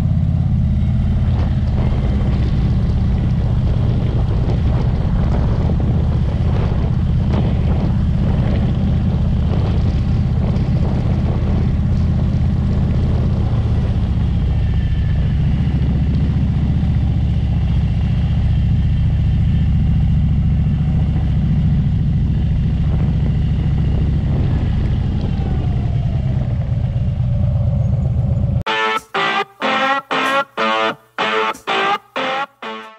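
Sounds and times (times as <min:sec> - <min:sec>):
motorcycle engine rumbling: 0:00.0 - 0:28.7.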